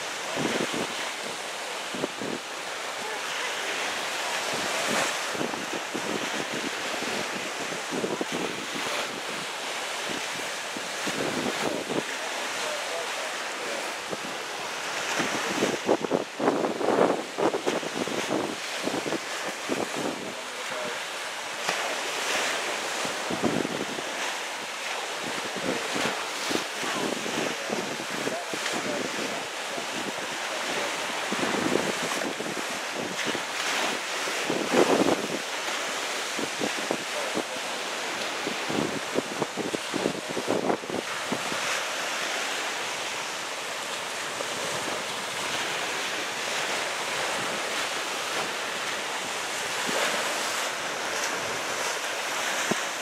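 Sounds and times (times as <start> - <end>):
wind buffeting microphone: 0.0 - 12.4, 13.9 - 20.4, 22.8 - 53.0
small waves on shingle beach: 0.0 - 53.0.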